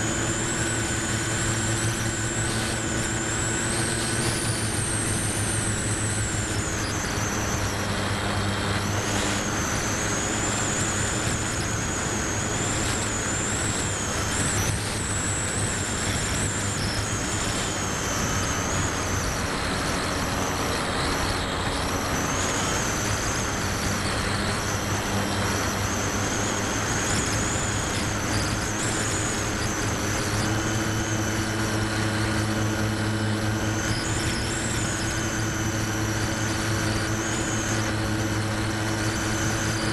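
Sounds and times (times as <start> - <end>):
model plane motor whining: 0.0 - 39.9.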